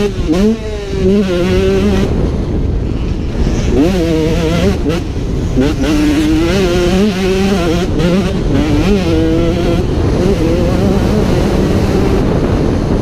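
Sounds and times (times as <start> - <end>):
motocross engine revving hard: 0.0 - 13.0.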